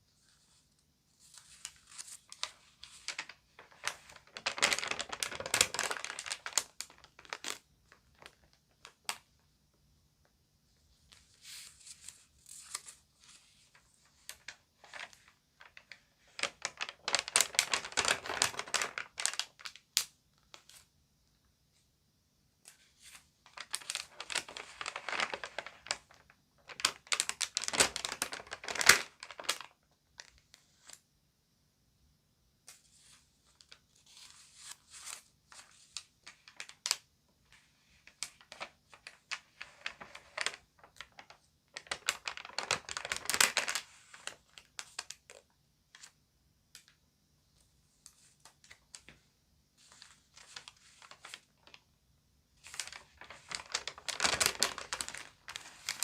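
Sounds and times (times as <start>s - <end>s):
magazine pages crinkling: 0.2s - 9.3s, 11.0s - 20.9s, 22.7s - 31.0s, 32.7s - 46.2s, 49.8s - 51.9s, 52.6s - 56.0s.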